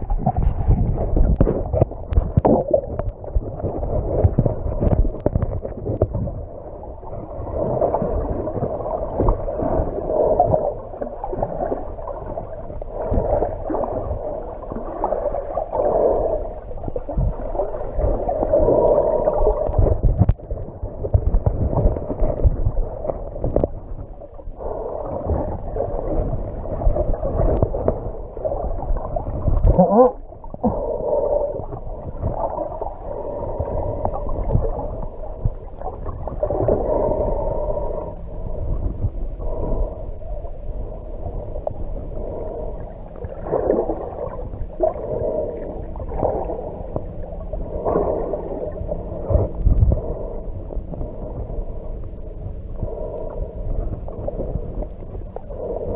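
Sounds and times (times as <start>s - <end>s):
muffled underwater sloshing: 0.0s - 55.9s.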